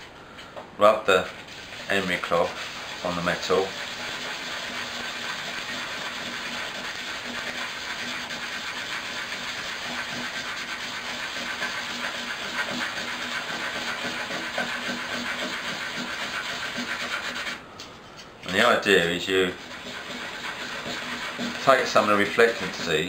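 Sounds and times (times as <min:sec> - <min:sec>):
emery cloth rubbing metal: 0:01.1 - 0:23.0.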